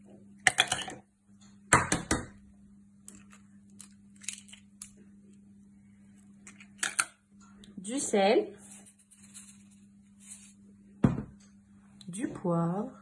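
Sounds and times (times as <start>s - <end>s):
steady low hum: 2.3s - 13.0s.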